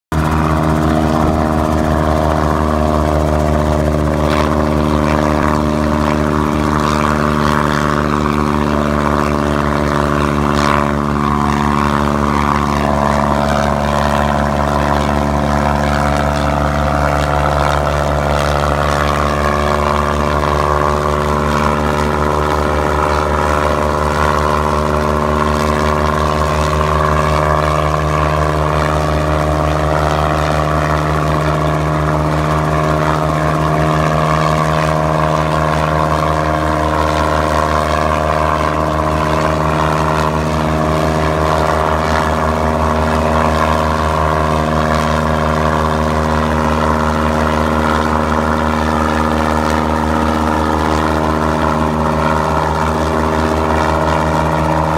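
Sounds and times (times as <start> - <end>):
helicopter engine and rotor: 0.1 - 54.9.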